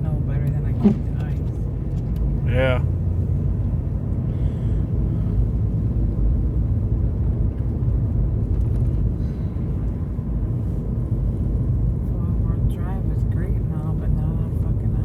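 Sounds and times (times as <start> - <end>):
truck engine and tyres rumbling: 0.0 - 15.0.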